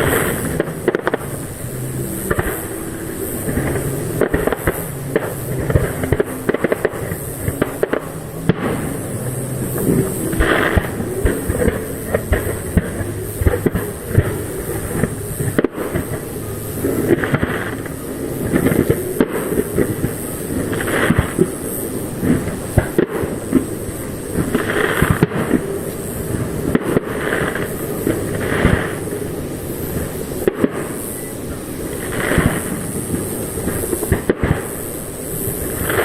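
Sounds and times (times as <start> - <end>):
fireworks bangs and booms: 0.0 - 36.0
hissing crackles: 0.0 - 36.0.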